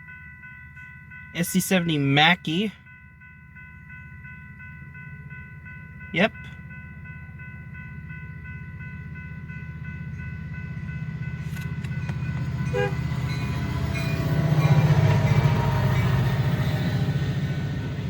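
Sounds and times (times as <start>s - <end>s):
crossing signal bell ringing: 0.0s - 18.0s
diesel locomotive engine rumble: 0.0s - 18.0s.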